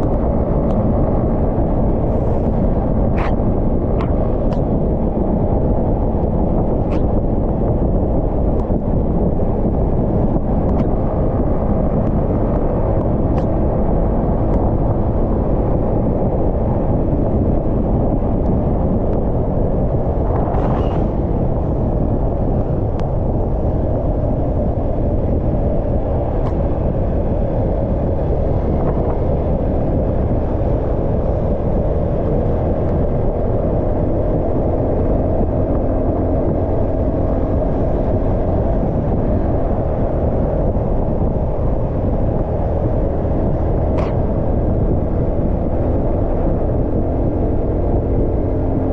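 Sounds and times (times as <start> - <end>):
motorcycle engine cruising: 0.0 - 48.9
wind rushing on microphone: 0.0 - 48.9.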